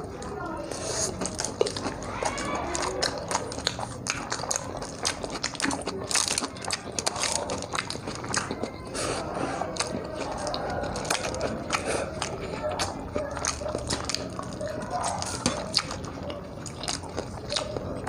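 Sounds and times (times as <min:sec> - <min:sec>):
chewing and mouth smacks: 0:00.0 - 0:18.0.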